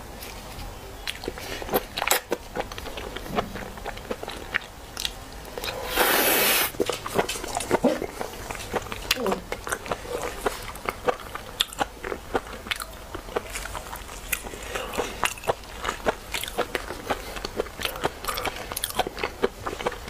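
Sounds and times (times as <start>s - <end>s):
person chewing wet mouth clicks: 1.0s - 6.2s, 6.8s - 20.0s.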